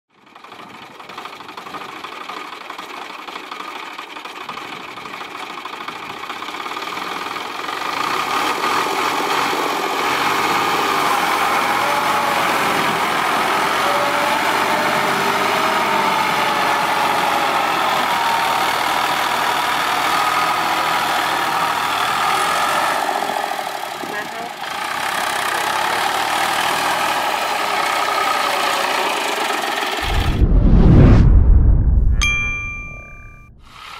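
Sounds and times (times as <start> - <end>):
tractor diesel engine straining: 0.2 - 30.1, 32.2 - 33.9.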